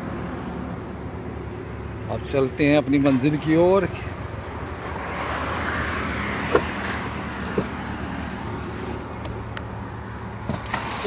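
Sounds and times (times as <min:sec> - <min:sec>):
steady low traffic hum: 0:00.0 - 0:11.0
vehicle passing: 0:00.0 - 0:11.0.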